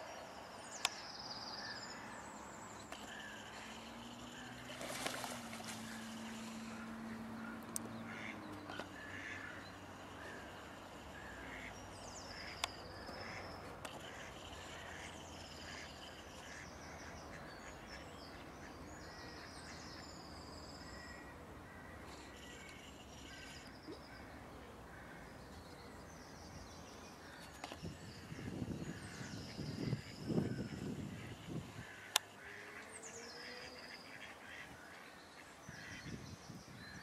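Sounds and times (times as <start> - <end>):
birds chirping and trilling: 0.0 - 37.0.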